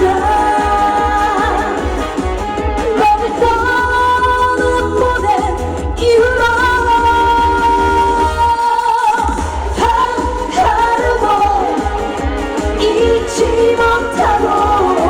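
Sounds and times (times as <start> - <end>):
bass beat: 0.0 - 8.6, 9.2 - 15.0.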